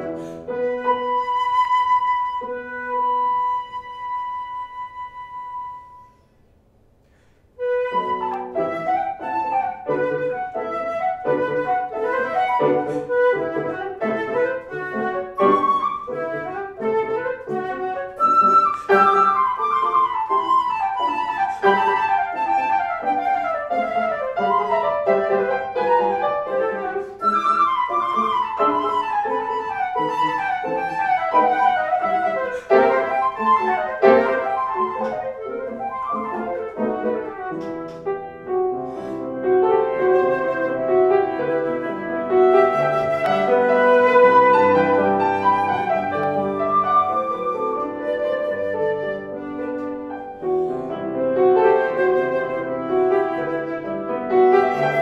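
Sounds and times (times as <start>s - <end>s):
flute playing classical music: 0.0s - 6.5s, 7.1s - 55.0s
piano accompaniment: 0.0s - 55.0s.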